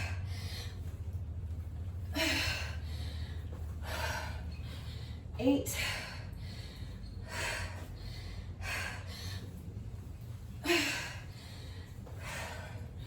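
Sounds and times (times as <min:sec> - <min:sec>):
woman breathing hard: 0:00.0 - 0:13.0.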